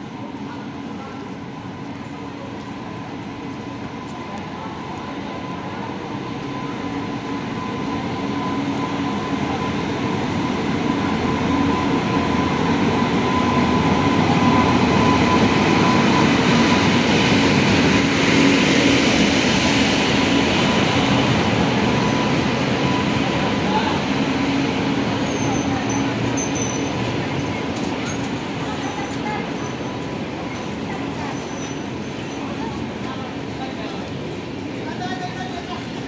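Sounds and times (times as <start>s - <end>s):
electric locomotive whine: 0.0s - 36.0s
wheels rumbling on rail: 0.0s - 36.0s.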